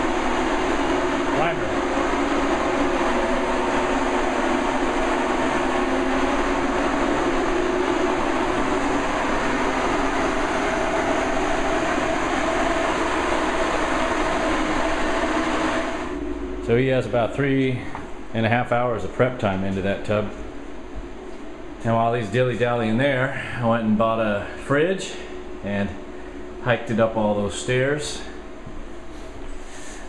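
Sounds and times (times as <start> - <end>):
ventilation fan running: 0.0 - 30.0.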